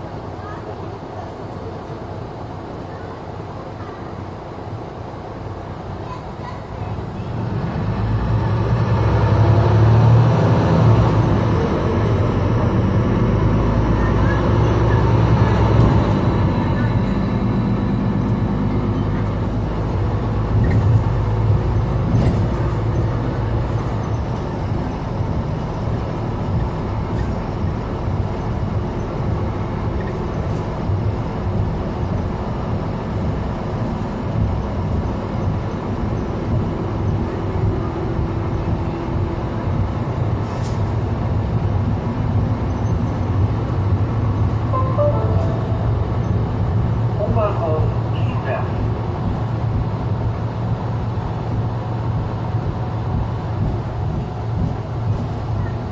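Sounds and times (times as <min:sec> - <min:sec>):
bus diesel engine and road noise: 0:00.0 - 0:55.9.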